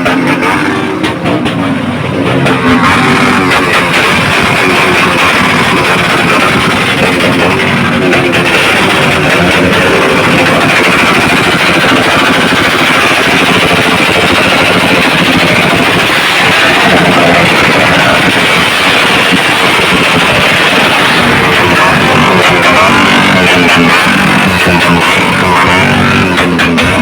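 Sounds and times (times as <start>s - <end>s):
vehicle exhaust revving: 0.0s - 27.0s.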